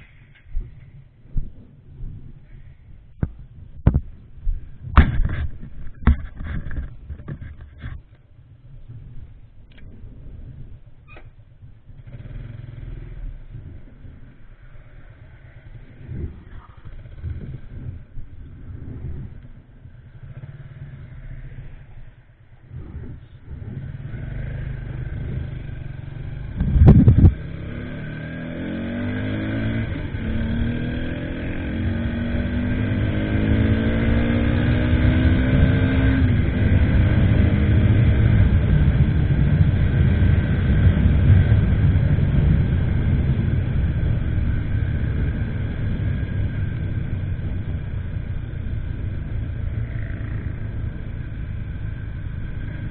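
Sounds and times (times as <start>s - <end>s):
motorcycle engine accelerating: 8.8s - 52.9s.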